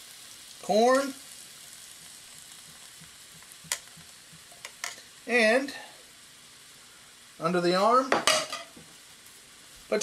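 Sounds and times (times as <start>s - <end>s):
steady sizzling hiss: 0.0s - 10.0s.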